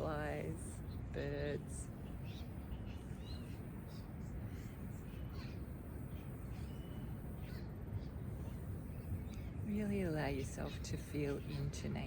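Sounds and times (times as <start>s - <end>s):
birds calling: 0.8s - 12.0s.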